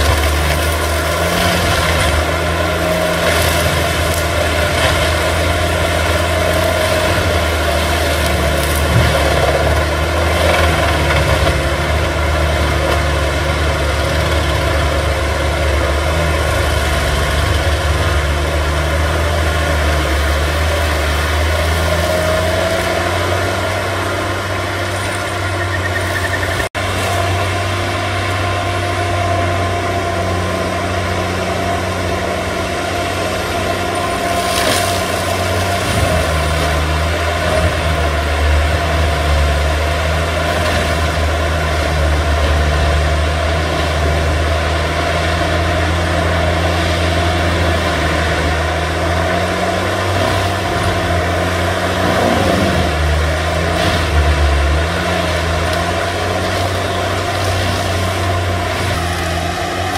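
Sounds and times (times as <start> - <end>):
diesel engine deep drone: 0.0 - 59.9.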